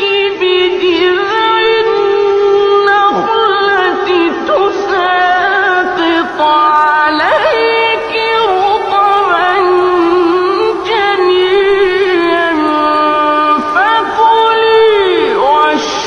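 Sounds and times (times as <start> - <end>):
melodic religious recitation: 0.0 - 16.0.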